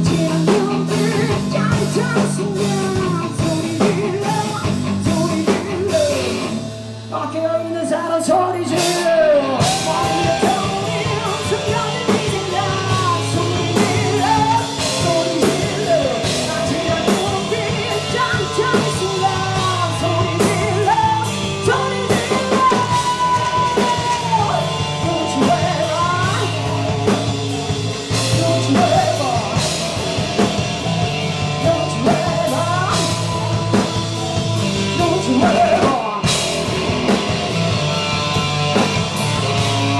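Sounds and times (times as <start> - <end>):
lead vocals singing: 0.0 - 37.2
bass guitar: 0.0 - 39.9
drum kit: 0.0 - 39.9
electric guitar: 0.0 - 39.9.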